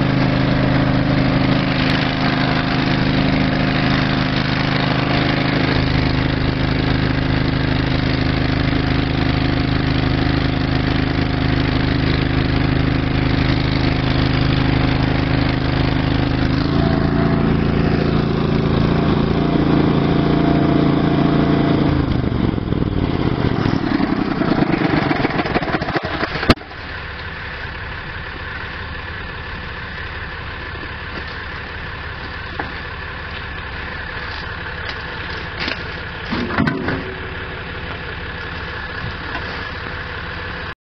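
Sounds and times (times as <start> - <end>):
engine idling: 0.0 - 40.8.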